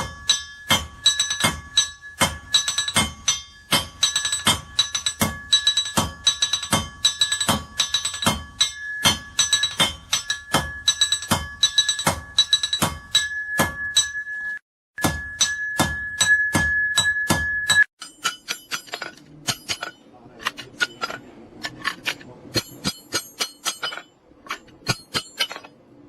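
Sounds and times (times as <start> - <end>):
anvil ringing: 0.0 - 25.8
hammer striking iron on anvil: 0.0 - 25.8.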